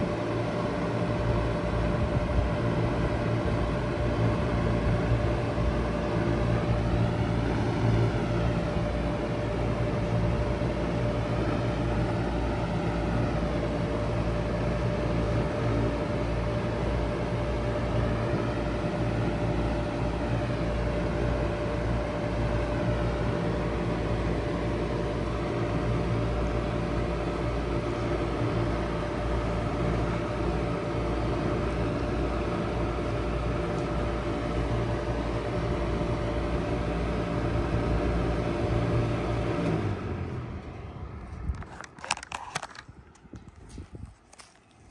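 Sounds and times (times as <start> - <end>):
heat pump humming: 0.0 - 44.9.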